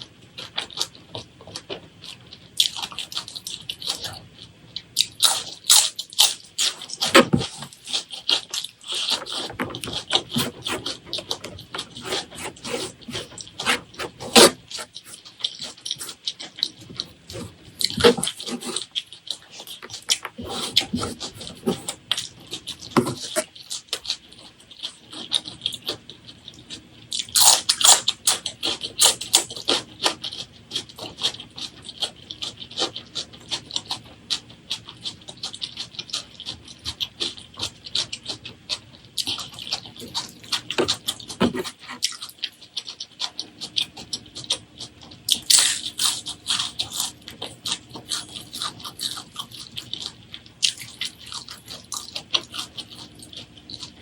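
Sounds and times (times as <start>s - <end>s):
wet chewing and mouth smacking: 0.0s - 54.0s.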